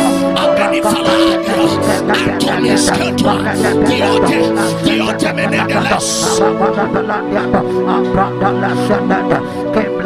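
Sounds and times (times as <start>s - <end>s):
sustained held chords: 0.0s - 10.0s.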